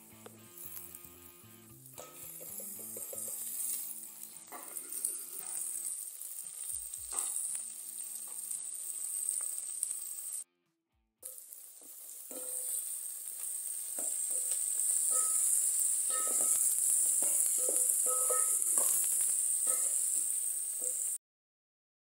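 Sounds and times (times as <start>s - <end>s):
potatoes sizzling in oil: 0.0s - 10.4s, 11.2s - 21.2s.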